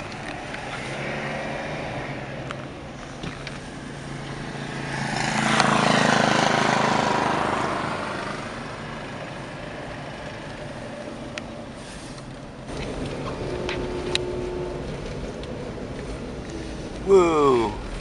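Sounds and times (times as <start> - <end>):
engine and road hum: 0.0 - 18.0
passing vehicle engine and tyres: 0.0 - 18.0.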